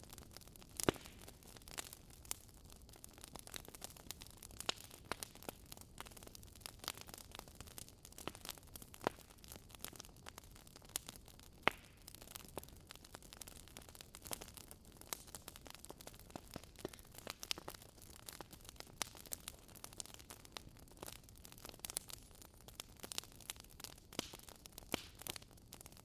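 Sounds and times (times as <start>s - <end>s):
fireplace logs crackling and popping: 0.0s - 26.0s.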